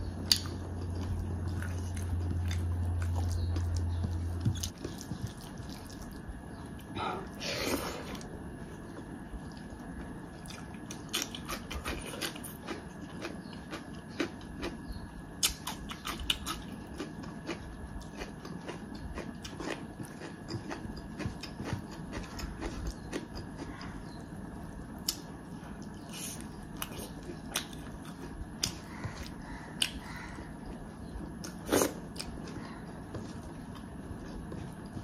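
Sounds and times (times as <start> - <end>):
person chewing food: 0.0 - 35.0.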